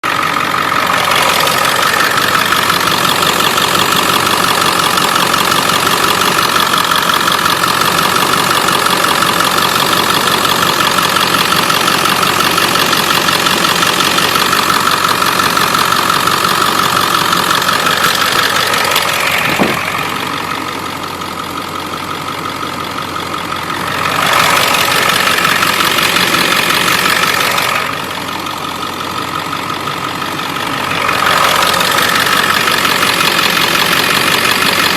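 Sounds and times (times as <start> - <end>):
diesel engine idling with ticking: 0.0 - 34.9.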